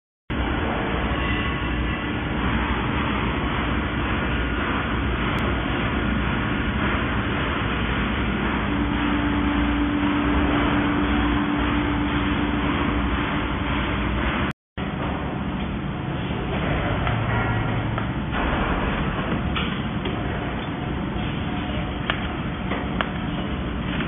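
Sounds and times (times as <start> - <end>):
factory machinery running: 0.3 - 24.0
low hum: 0.3 - 24.0.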